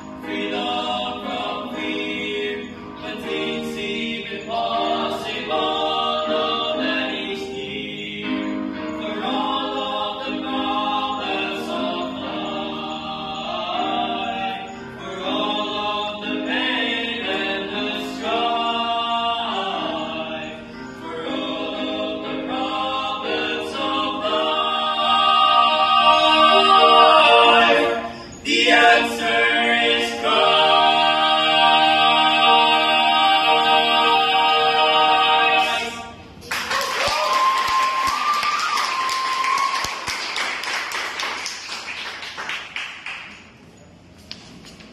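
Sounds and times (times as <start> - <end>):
boys singing a cappella: 0.1 - 36.3.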